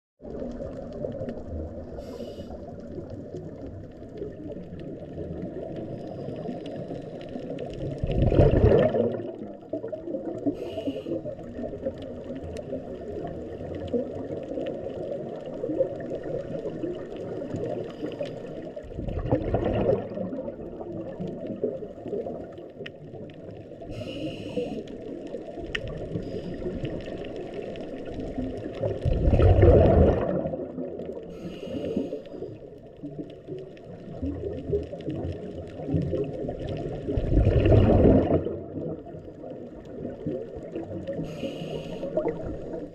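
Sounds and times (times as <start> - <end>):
underwater water noise: 0.2 - 42.9
regulator bubbles rushing: 2.6 - 10.6, 11.2 - 23.7, 25.1 - 31.3, 32.4 - 41.2, 42.0 - 42.9.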